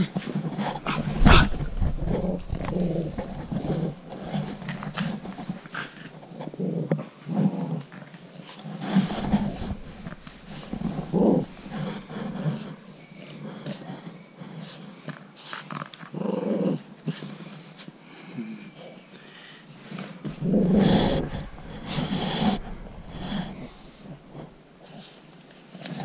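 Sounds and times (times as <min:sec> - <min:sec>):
dog growling in play: 0:00.0 - 0:17.8, 0:19.9 - 0:26.0.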